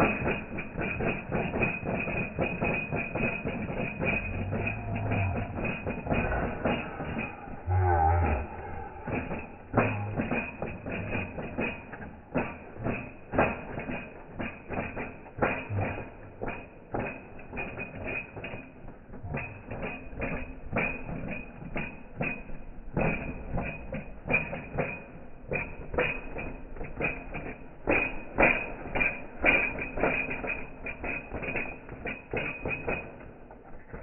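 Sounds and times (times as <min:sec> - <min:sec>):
irregular clicking and knocking: 0:00.0 - 0:34.0.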